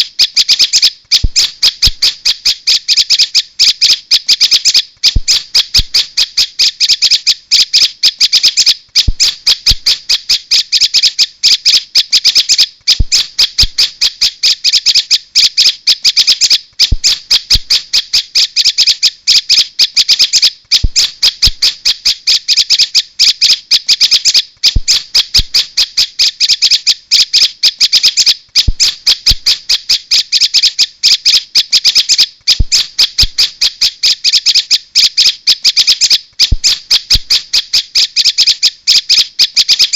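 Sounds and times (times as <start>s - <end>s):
rapid high bird chirping: 0.0s - 39.9s.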